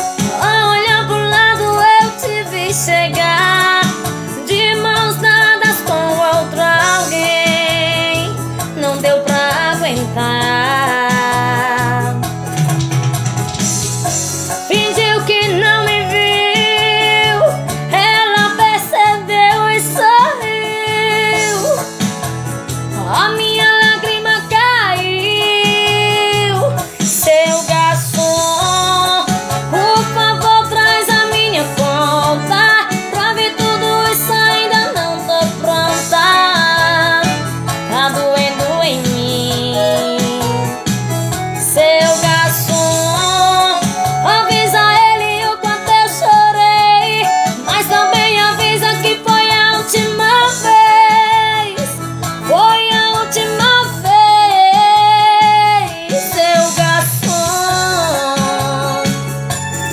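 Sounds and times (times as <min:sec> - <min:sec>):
woman singing with vibrato: 0:00.0 - 0:12.3, 0:14.5 - 0:22.0, 0:22.9 - 0:40.9, 0:41.6 - 0:59.9
instrumental accompaniment: 0:00.0 - 0:59.9.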